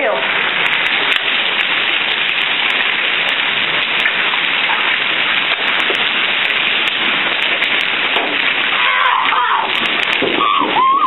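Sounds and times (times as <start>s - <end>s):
hail hissing on ground: 0.0s - 11.0s
sharp clicks of hailstones: 0.0s - 11.0s.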